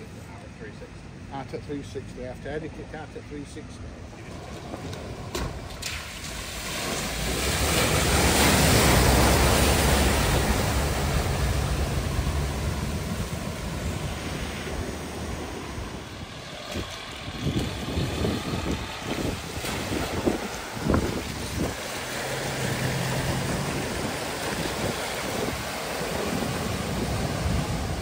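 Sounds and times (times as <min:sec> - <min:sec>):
low engine hum: 0:00.0 - 0:28.0
water rushing: 0:00.0 - 0:28.0.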